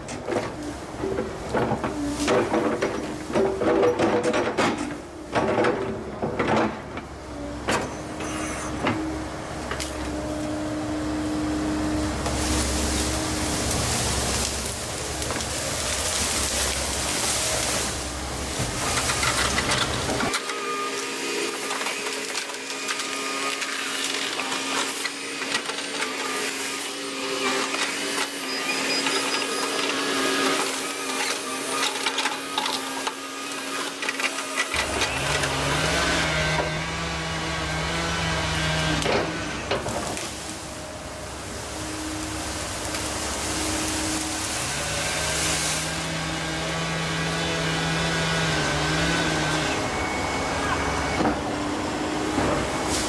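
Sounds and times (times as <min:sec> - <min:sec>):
excavator diesel engine and hydraulics: 0:00.0 - 0:53.0.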